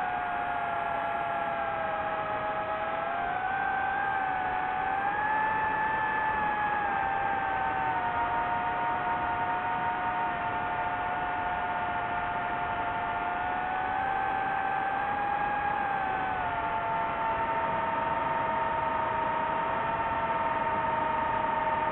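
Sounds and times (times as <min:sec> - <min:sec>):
drone motors whining: 0:00.0 - 0:21.9
steady rush of noise: 0:00.0 - 0:21.9.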